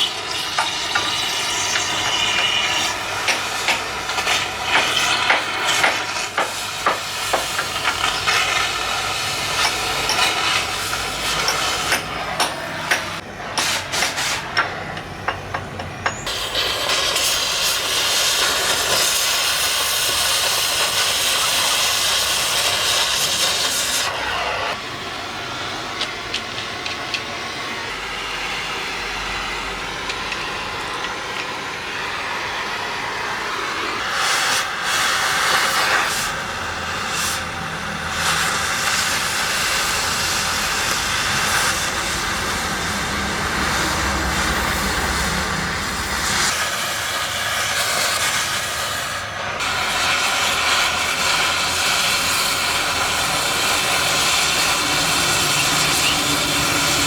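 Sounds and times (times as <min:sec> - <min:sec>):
cutting torch flame hissing: 0:00.0 - 0:57.0.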